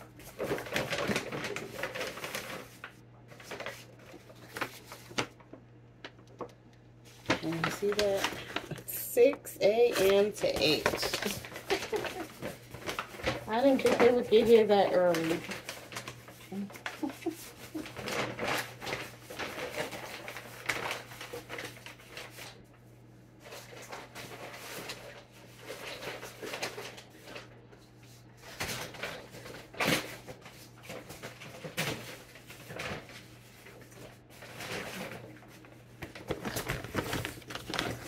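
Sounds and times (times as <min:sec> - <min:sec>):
paper bags rustling: 0:00.0 - 0:22.7, 0:23.4 - 0:27.5, 0:28.4 - 0:38.0
low steady hum: 0:00.0 - 0:38.0.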